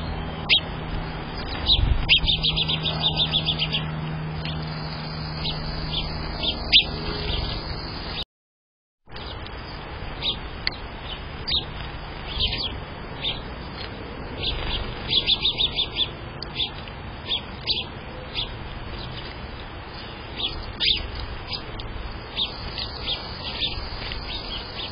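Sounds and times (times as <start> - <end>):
sparrows chirping: 0.0 - 8.2, 9.2 - 24.9.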